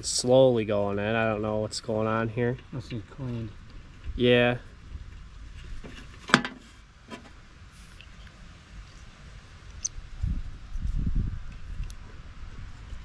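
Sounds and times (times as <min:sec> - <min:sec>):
low irregular rumble: 0:00.0 - 0:13.0.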